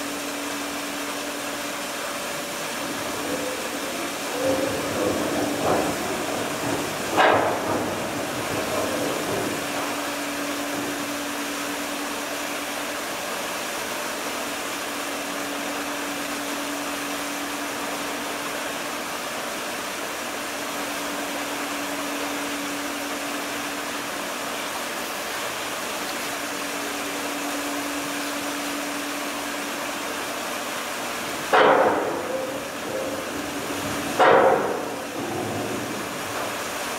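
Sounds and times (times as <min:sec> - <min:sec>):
faint machinery hum: 0:00.0 - 0:36.9.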